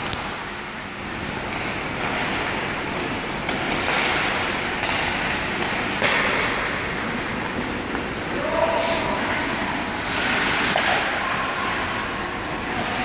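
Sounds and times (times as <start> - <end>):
skates scraping on ice: 1.4 - 13.0.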